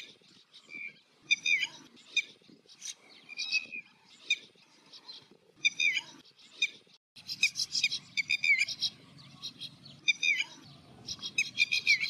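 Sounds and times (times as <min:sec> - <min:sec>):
lapwing calling: 0:00.0 - 0:12.0.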